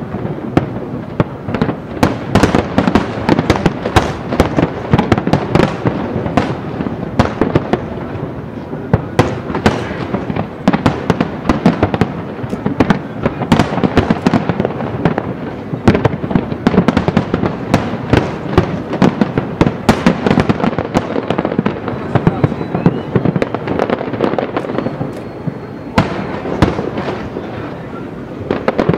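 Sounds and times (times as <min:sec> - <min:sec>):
fireworks booming and crackling: 0:00.0 - 0:28.9.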